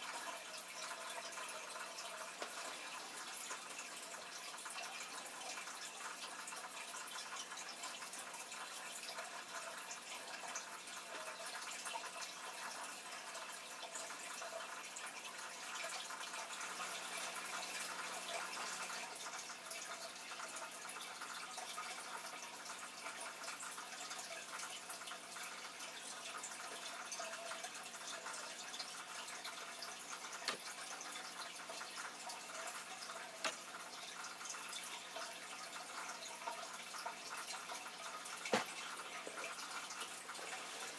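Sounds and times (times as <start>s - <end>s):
aquarium filter trickling water: 0.0s - 40.9s.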